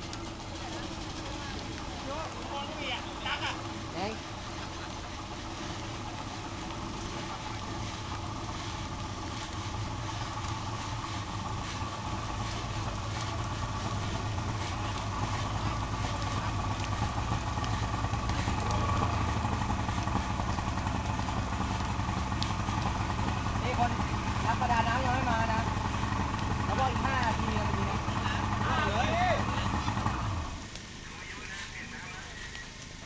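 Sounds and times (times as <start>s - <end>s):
small engine idling: 0.0s - 33.0s.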